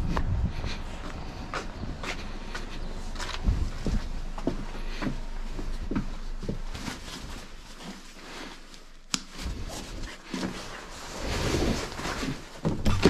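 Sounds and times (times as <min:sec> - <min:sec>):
shuffling and rustling: 0:00.0 - 0:13.0.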